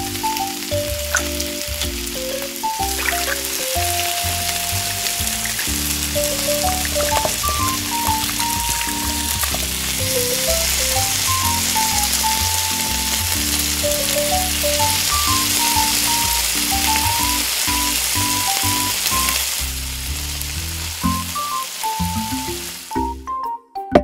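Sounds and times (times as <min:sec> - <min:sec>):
light plucked background music: 0:00.0 - 0:19.6, 0:20.8 - 0:24.0
hot oil sizzling and bubbling: 0:00.0 - 0:23.2.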